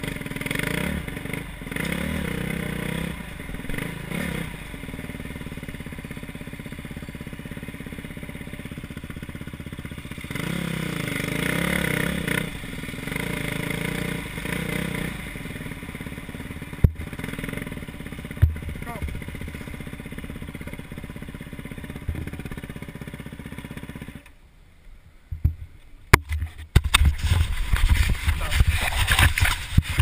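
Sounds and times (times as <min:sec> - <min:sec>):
motocross bike engine revving: 0:00.0 - 0:24.3.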